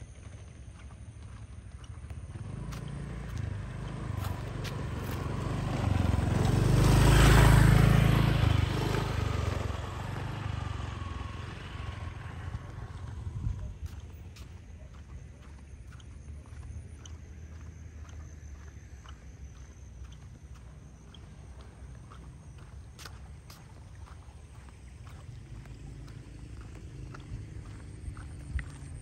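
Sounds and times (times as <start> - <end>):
motorbike passing: 0.0 - 29.0.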